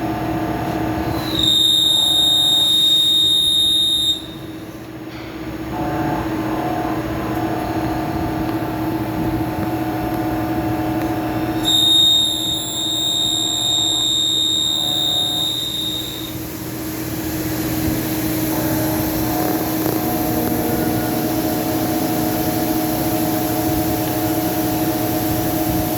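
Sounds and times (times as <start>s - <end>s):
high-pitched whine: 0.9s - 4.8s, 5.6s - 25.9s
lathe machine hum: 4.3s - 25.9s.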